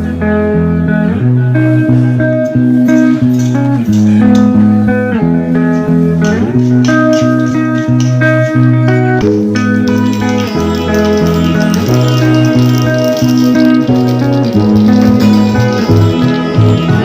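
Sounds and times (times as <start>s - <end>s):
guitar instrumental music: 0.0s - 17.0s.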